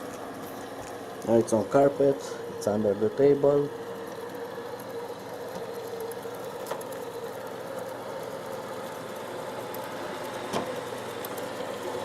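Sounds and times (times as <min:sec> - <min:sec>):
robot vacuum motor humming: 0:00.0 - 0:12.0.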